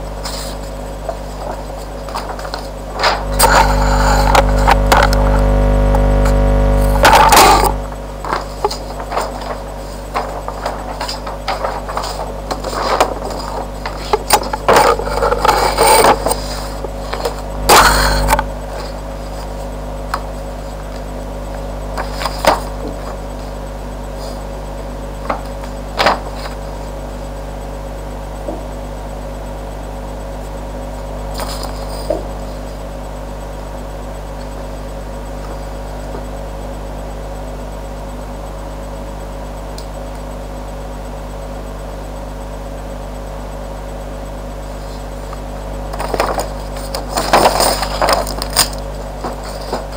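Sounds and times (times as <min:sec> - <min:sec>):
electrical hum and hiss: 0:00.0 - 0:49.9.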